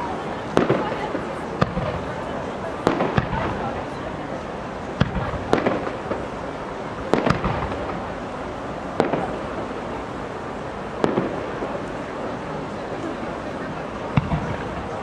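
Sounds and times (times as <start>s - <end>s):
fireworks bangs with crackle: 0.0s - 15.0s.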